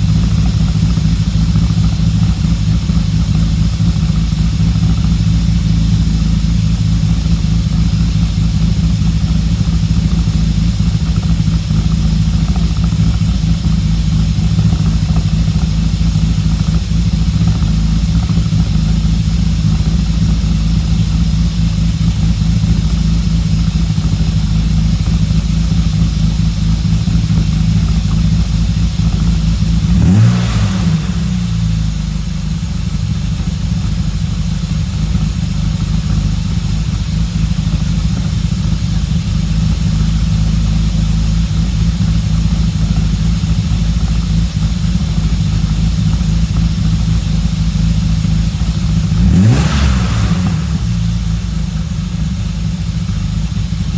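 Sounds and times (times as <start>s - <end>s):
car exhaust idling and revving: 0.0s - 53.9s.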